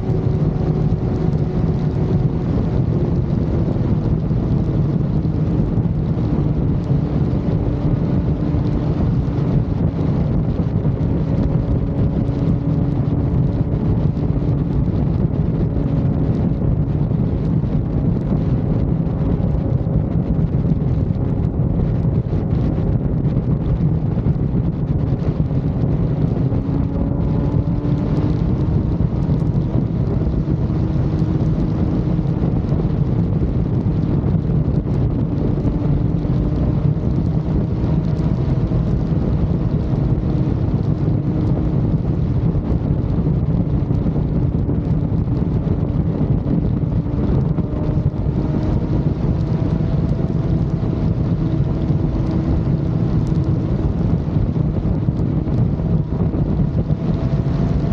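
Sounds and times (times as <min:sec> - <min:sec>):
motorcycle engine hum: 0:00.0 - 0:57.9
wind rushing on microphone: 0:00.0 - 0:57.9.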